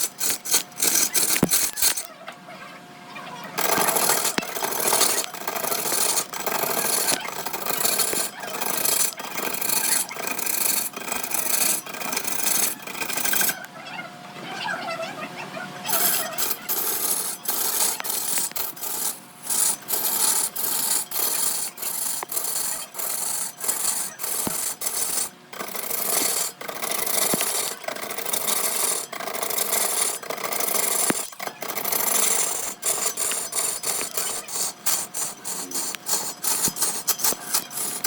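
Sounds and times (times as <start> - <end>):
tool rasping against spinning wood: 0.0 - 2.1, 3.6 - 13.7, 15.9 - 38.0.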